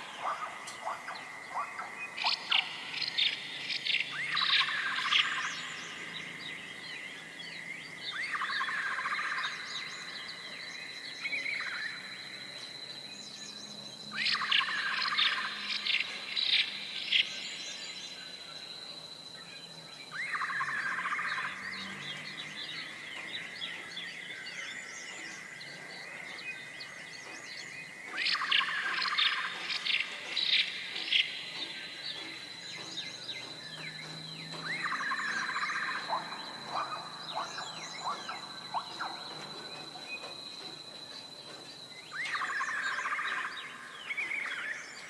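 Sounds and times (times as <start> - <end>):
songbird repeating song phrase: 0.0 - 7.1, 14.1 - 18.4, 20.1 - 45.0.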